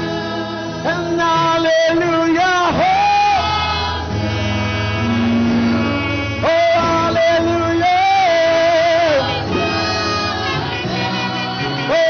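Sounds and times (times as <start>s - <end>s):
band accompaniment: 0.0s - 12.0s
man singing long held notes: 0.0s - 12.0s.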